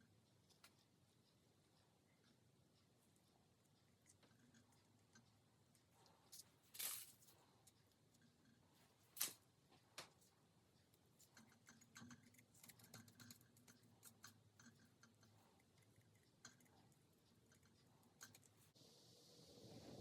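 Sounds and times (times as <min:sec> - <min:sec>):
faint small clicks and taps: 0:00.0 - 0:18.8.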